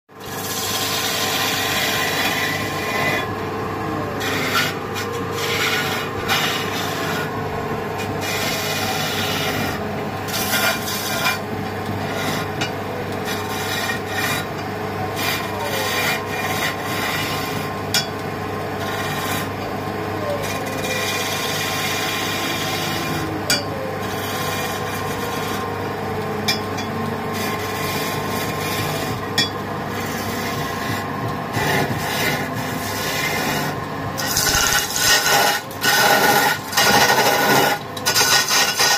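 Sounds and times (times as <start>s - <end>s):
chisel scraping spinning wood: 0.2s - 38.9s
wood lathe humming: 0.2s - 38.9s.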